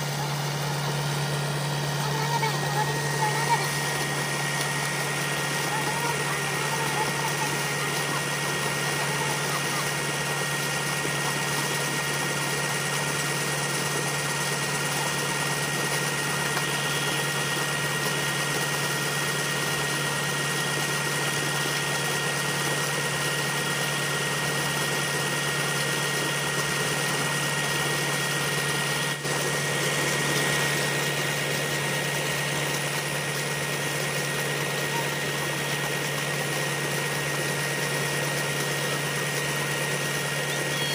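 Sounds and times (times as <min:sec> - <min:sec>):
water gushing and splashing: 0:00.0 - 0:40.8
tractor engine running: 0:00.0 - 0:40.9.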